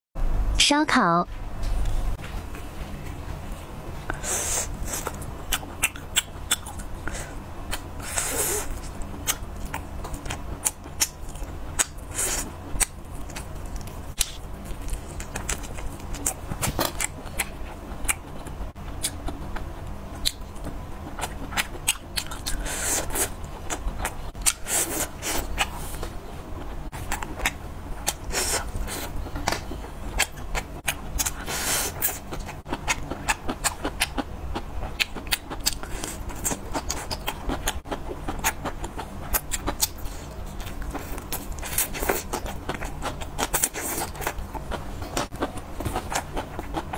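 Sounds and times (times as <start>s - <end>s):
steady low hum: 0.2s - 46.9s
chewing and biting food: 4.8s - 46.9s.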